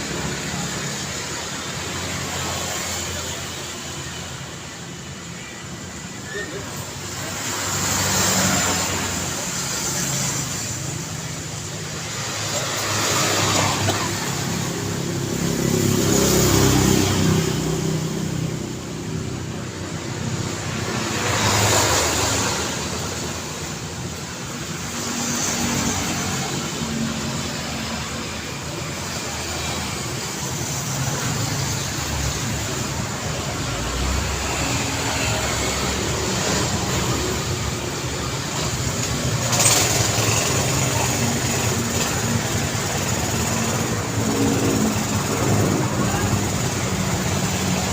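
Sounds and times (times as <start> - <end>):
car engines and tyre noise: 0.0 - 47.9
vehicles passing close by: 0.0 - 47.9.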